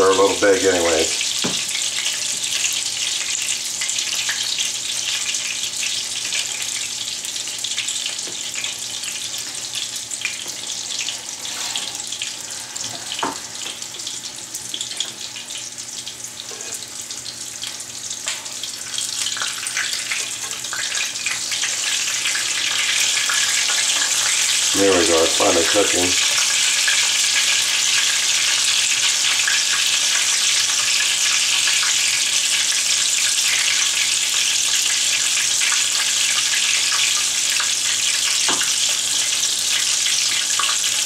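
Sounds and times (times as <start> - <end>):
sausage sizzling in oil: 0.0 - 41.0.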